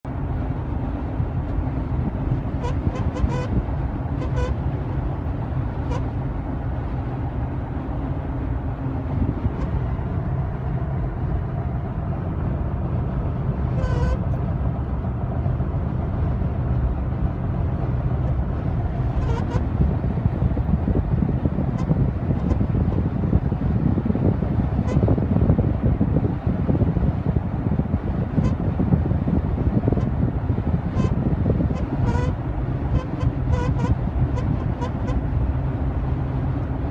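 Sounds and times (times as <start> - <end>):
road and wind noise: 0.0 - 36.9
buzzing tone in car cabin: 0.1 - 36.9.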